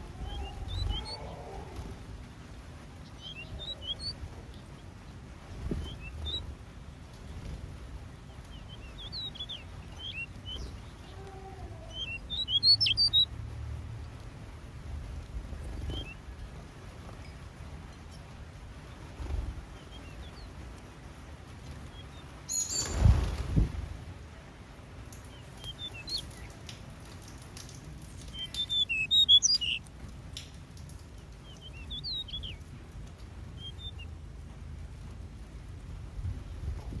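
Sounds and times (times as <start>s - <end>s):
wings flapping: 0.0s - 13.3s, 14.8s - 24.3s, 24.9s - 34.0s
small birds chirping: 0.0s - 37.0s.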